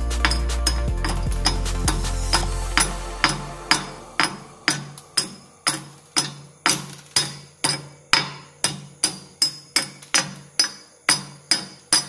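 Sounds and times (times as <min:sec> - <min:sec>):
hammer striking steel: 0:00.0 - 0:12.0.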